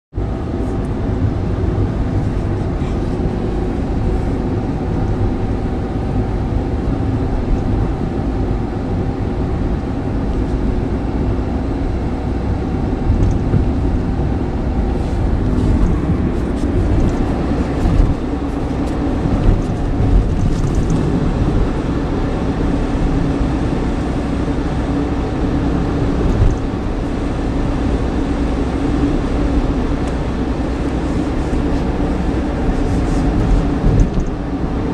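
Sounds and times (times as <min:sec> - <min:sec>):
car engine and road rumble: 0:00.1 - 0:34.9.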